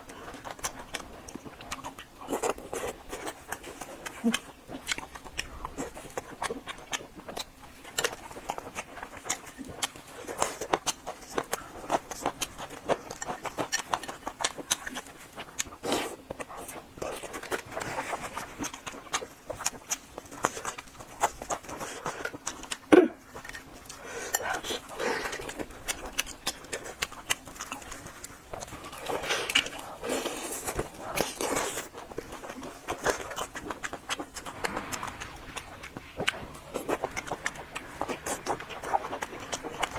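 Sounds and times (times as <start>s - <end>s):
chewing and mouth smacks: 0.0s - 39.9s.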